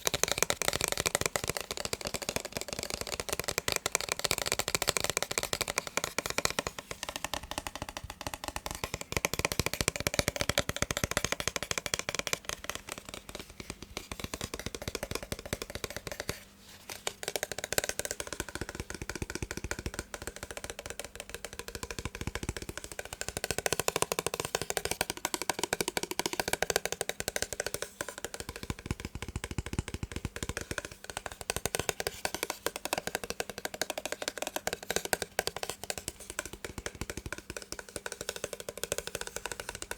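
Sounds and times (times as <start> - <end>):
massage gun tapping: 0.0 - 39.9.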